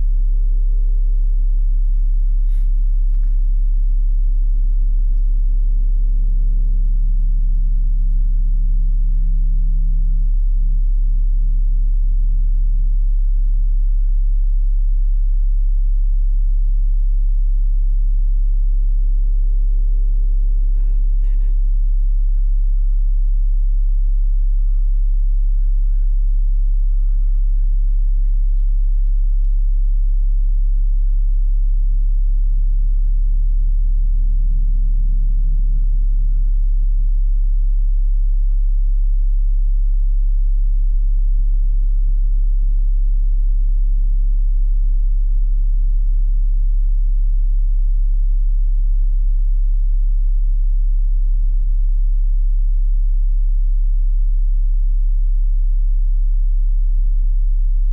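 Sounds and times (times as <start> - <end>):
loud steady low hum: 0.0 - 57.9.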